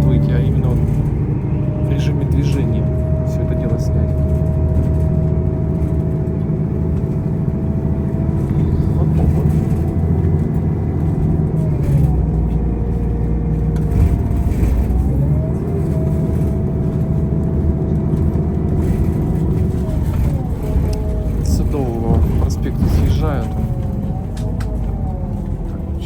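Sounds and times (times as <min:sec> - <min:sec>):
bus drive whine: 0:00.0 - 0:26.0
bus engine and road hum: 0:00.0 - 0:26.0.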